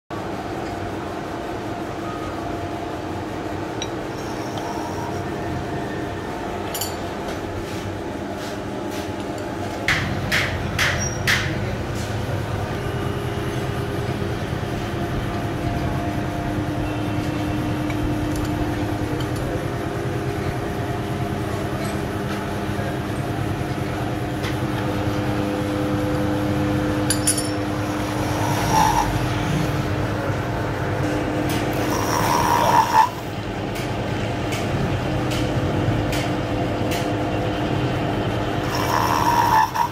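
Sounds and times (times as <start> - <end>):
milling machine humming: 0.2 - 39.9.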